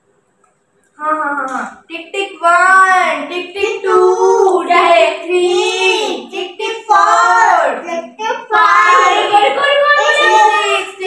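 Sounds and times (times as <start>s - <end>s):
girl singing unaccompanied: 2.0s - 11.0s.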